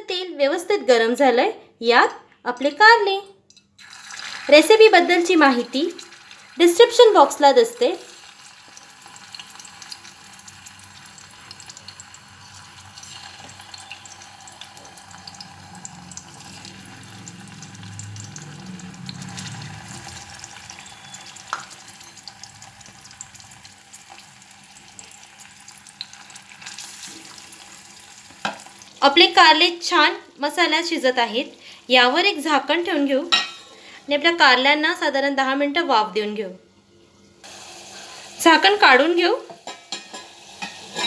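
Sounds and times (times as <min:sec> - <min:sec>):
food sizzling in hot oil: 0:03.8 - 0:34.5, 0:37.4 - 0:41.0.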